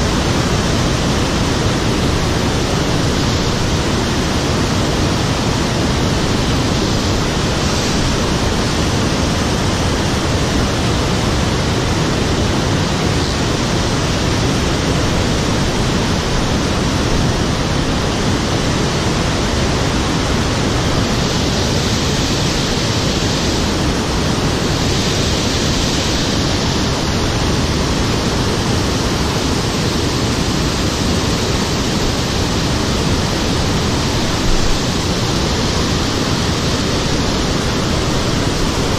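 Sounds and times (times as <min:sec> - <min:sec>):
fast-flowing river water rushing: 0:00.0 - 0:38.9.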